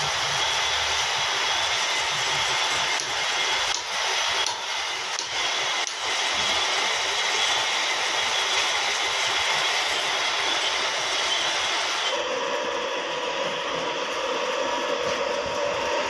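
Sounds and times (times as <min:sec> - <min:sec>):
metal lathe cutting: 0:00.0 - 0:16.0.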